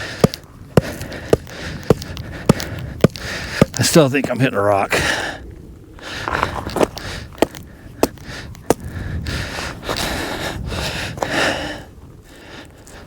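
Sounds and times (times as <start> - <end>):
heavy breathing: 0.0 - 3.9, 4.9 - 13.0.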